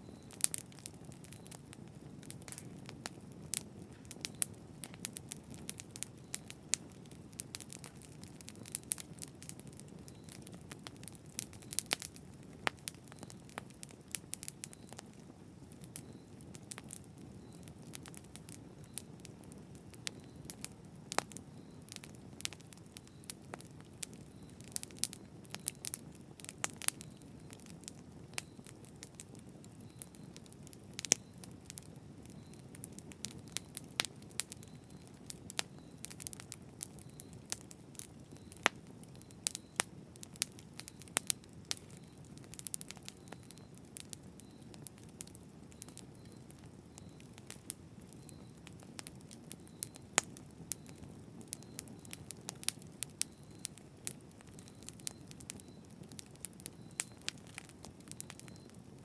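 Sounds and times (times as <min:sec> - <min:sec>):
low rumble of flames: 0:00.0 - 0:59.0
wood crackling and popping: 0:00.0 - 0:59.0.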